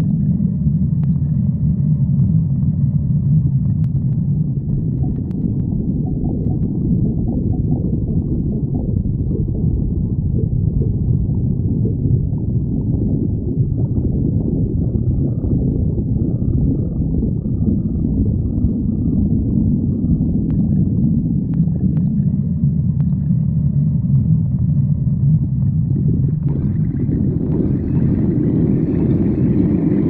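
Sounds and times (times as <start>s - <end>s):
stomach growling: 0.0s - 30.0s.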